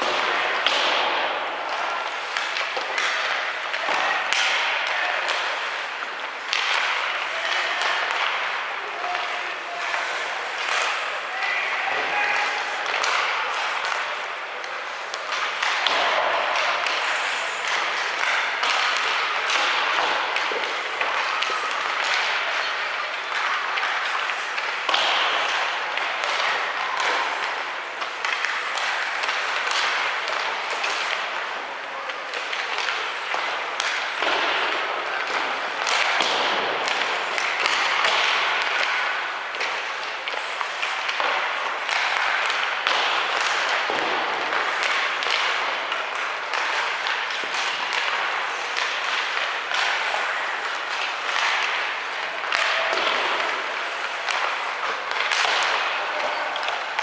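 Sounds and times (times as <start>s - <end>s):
crowd noise: 0.0s - 57.0s
hockey sticks and puck knocking: 0.0s - 57.0s.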